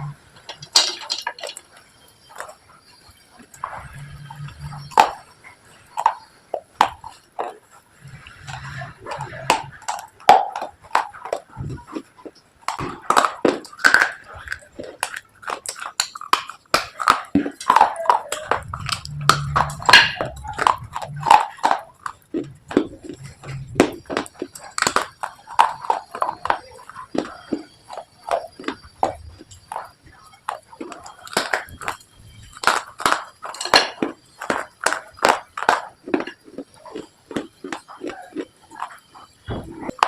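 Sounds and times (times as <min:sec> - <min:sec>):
crunching and chewing brittle clay: 0:00.0 - 0:40.0.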